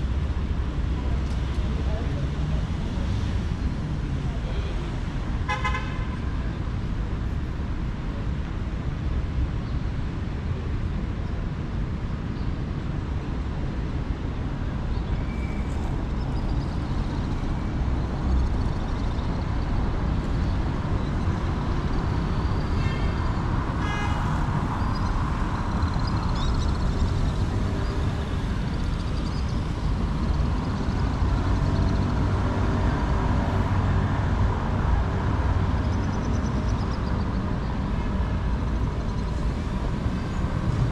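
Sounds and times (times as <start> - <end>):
rumble of passing traffic: 0.0 - 40.9.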